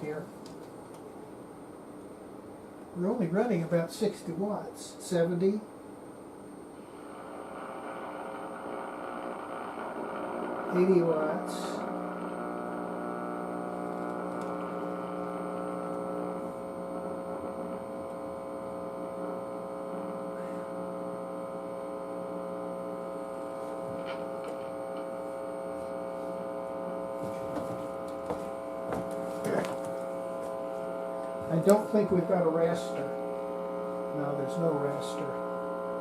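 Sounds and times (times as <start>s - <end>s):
buzzy electrical mains hum: 0.0s - 36.0s.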